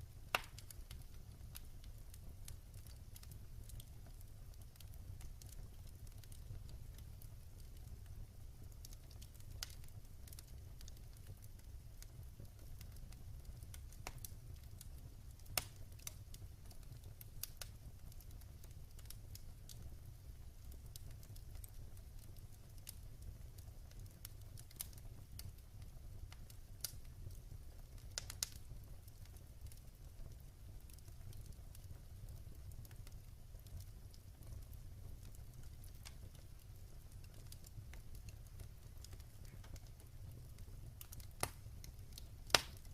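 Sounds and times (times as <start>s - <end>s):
low rumble of flame: 0.0s - 42.9s
wood crackling and popping: 0.0s - 42.9s.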